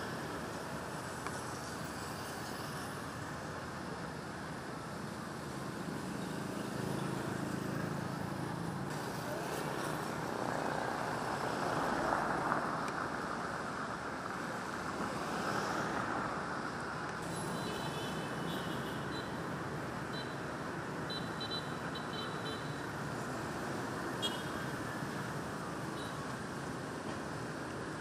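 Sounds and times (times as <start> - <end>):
passing vehicles hum: 0.0 - 28.0.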